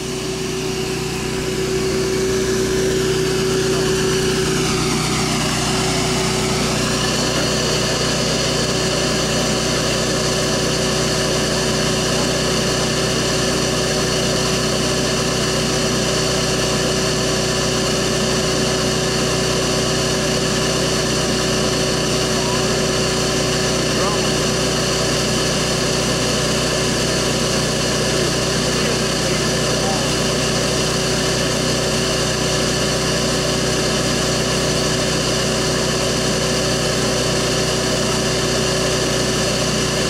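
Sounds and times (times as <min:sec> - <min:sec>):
vacuum motor whining: 0:00.0 - 0:40.0.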